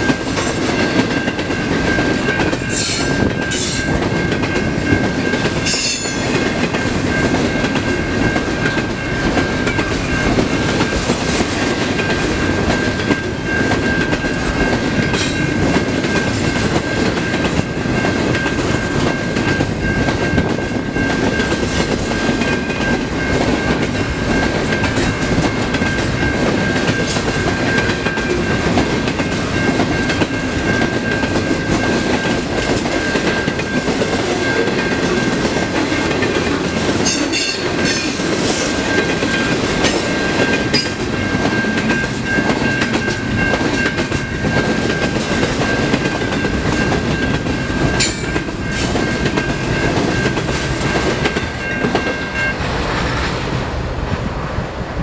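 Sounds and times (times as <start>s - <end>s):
crossing warning bell ringing: 0.0s - 52.8s
train wheels clattering on rails: 0.0s - 53.7s.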